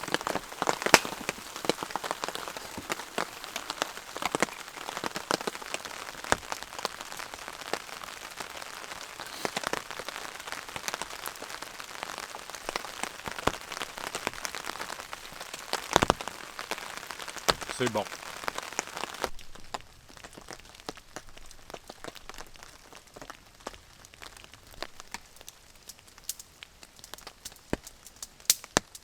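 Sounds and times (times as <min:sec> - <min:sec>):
rain pattering on a tarp: 0:00.0 - 0:29.0.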